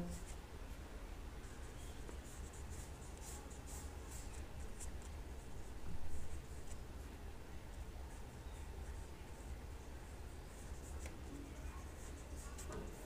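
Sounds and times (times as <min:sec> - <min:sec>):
steady low hum: 0:00.0 - 0:13.0
paintbrush strokes on paper: 0:01.4 - 0:06.8, 0:07.7 - 0:13.0.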